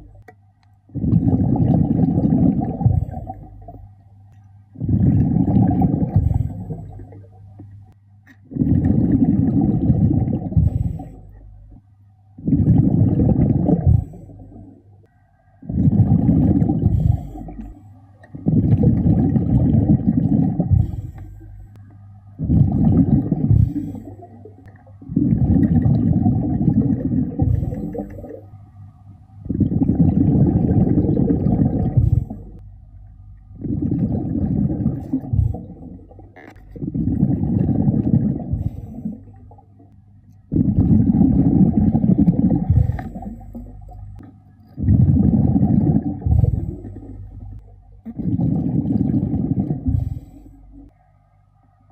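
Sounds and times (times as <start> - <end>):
exhaled bubbles gurgling underwater: 0.0 - 51.9.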